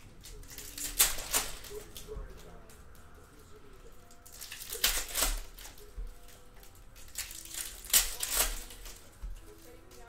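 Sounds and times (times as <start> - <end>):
foil wrapper crinkling and tearing: 0.2 - 10.0.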